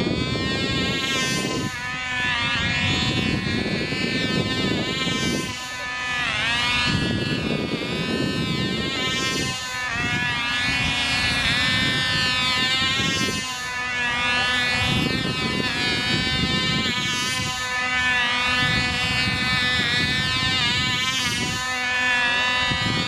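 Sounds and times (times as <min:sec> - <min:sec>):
model airplane engine buzzing whine: 0:00.0 - 0:23.0.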